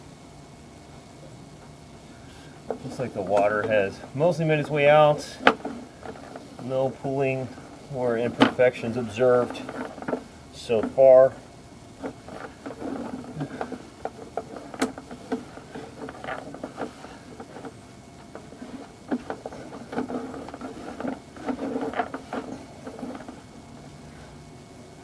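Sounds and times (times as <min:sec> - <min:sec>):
cable clicking and rattling in pipe: 0:02.3 - 0:23.8.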